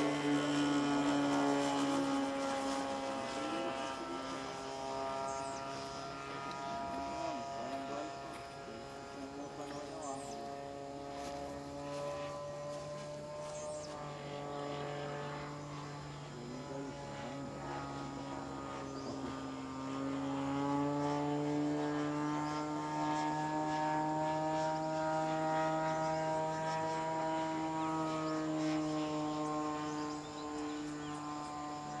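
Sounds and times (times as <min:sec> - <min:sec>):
model airplane engine buzzing: 0:00.0 - 0:32.0.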